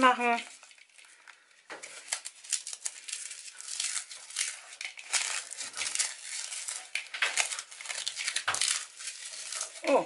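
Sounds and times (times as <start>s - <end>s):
rice cakes crumbling with crackling: 0.0s - 10.0s.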